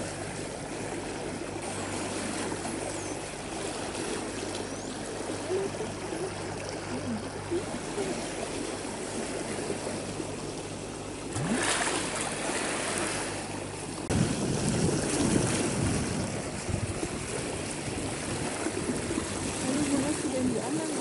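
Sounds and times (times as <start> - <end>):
rumble of turbulent water: 0.0 - 21.0
steady low hum: 0.0 - 21.0
water rushing and churning: 0.0 - 21.0.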